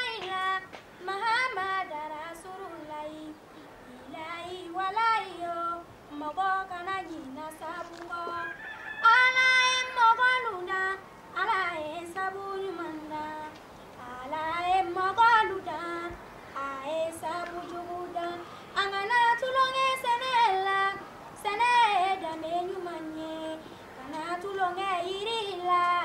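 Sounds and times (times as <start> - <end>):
woman singing unaccompanied: 0.0 - 26.0.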